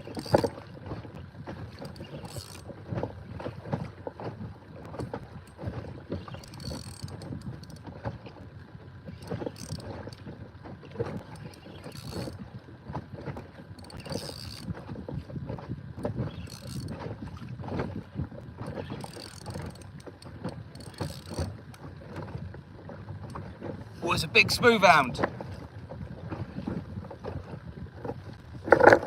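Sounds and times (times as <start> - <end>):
water lapping against hull: 0.0 - 29.0.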